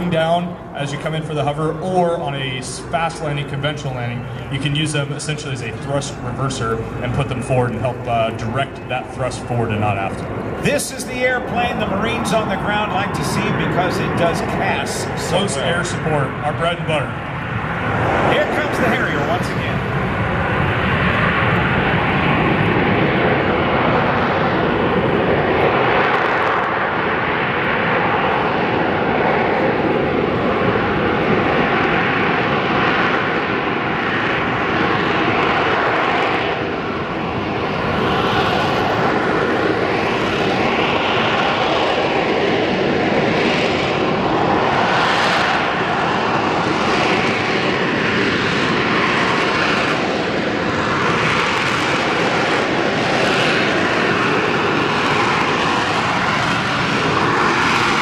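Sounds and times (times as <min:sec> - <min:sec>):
jet engine roaring: 0:00.0 - 0:58.0.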